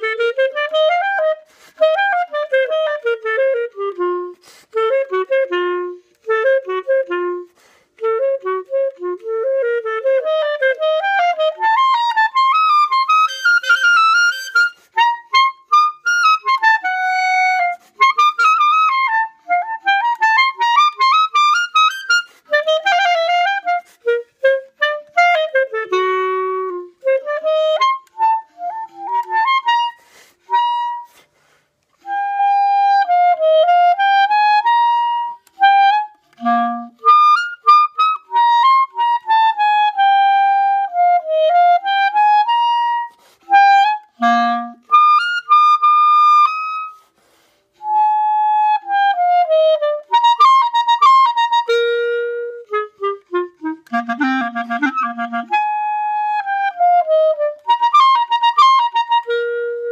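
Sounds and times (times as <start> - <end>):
clarinet playing: 0.0 - 59.9.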